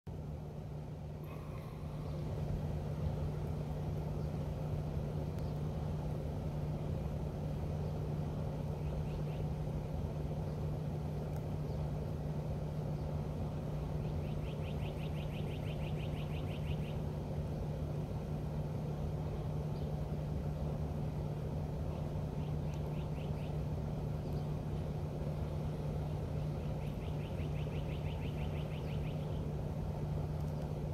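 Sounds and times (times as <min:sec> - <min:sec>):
low droning hum and rumble: 0:00.1 - 0:30.9.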